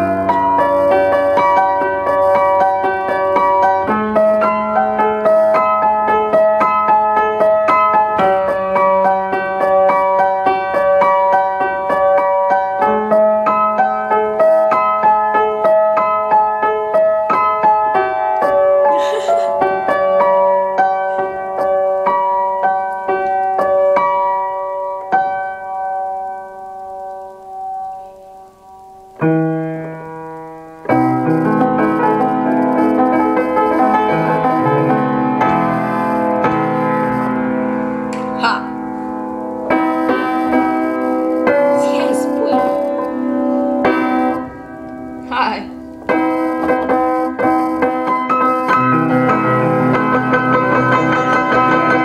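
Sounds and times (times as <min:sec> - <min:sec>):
piano playing: 0:00.0 - 0:52.0.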